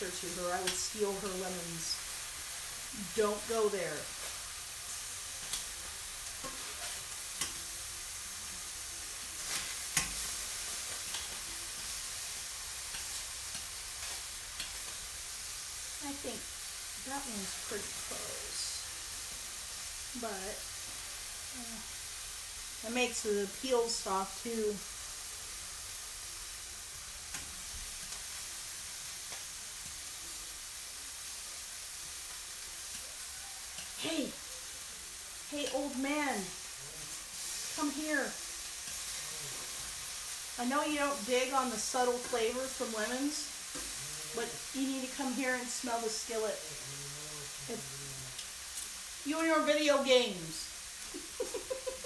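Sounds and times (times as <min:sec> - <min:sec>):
lemons sizzling in a skillet: 0:00.0 - 0:52.0.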